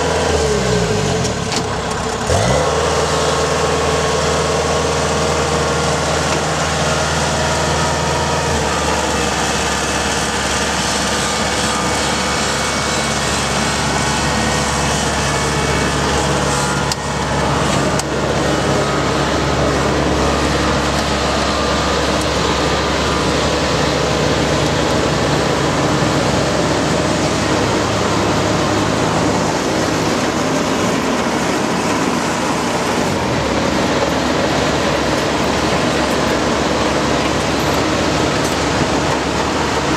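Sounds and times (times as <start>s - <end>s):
large diesel engine running: 0.0s - 39.9s.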